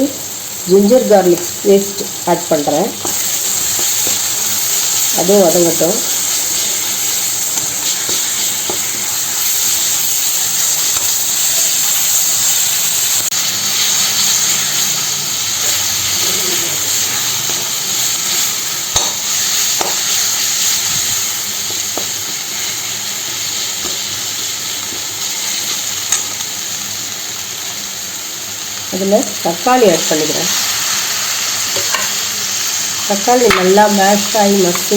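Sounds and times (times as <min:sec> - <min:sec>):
food sizzling in oil: 0:00.0 - 0:34.9.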